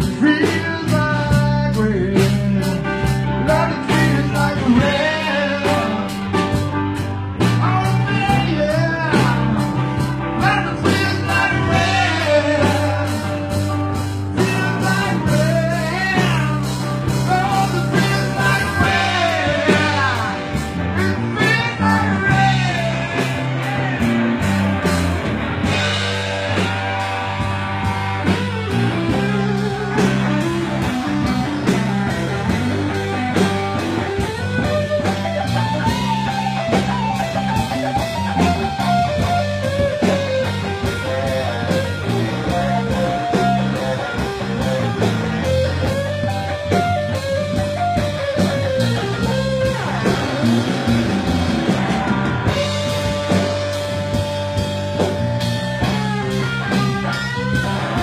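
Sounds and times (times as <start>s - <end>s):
bass and drum kit: 0.0s - 58.0s
electric guitar lead line: 0.0s - 58.0s.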